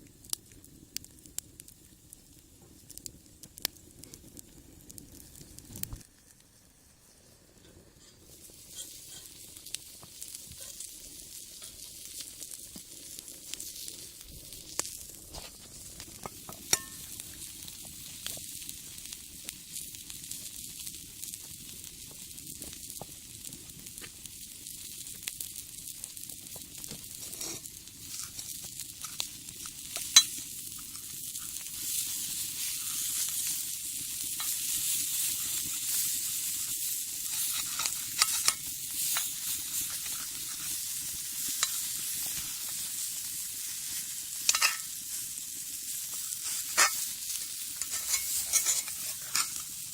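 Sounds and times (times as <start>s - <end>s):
food sizzling in a skillet: 0.0s - 49.9s
wood fire popping and crackling: 0.0s - 49.9s.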